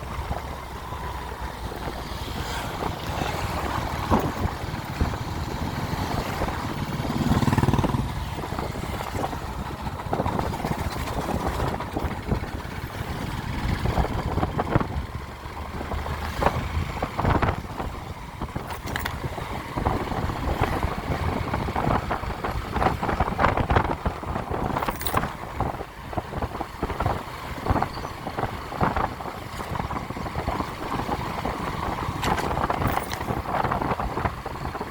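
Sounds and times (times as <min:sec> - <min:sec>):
motorcycle engine running: 0:00.0 - 0:34.9
road noise: 0:00.0 - 0:34.9.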